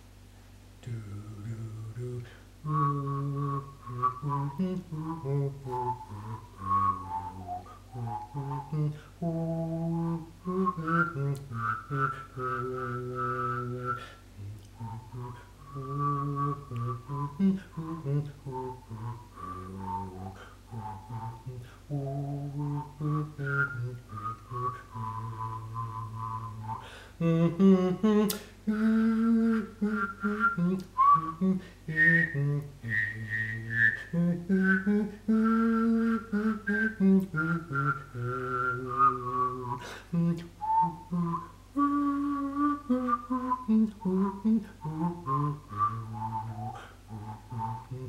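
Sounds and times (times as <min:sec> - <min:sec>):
man humming: 0:00.8 - 0:48.0
man whistling a melody: 0:00.9 - 0:48.0.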